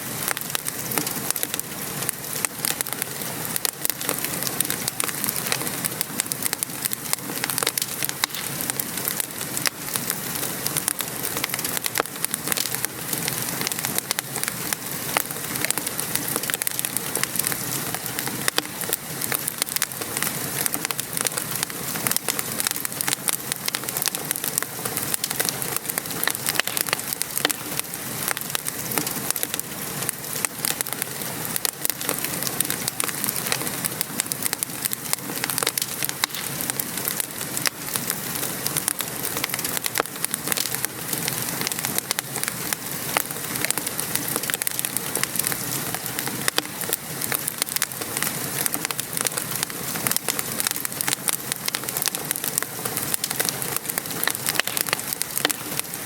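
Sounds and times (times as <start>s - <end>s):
rain falling: 0.0s - 56.0s
wood fire crackling and popping: 0.0s - 56.0s.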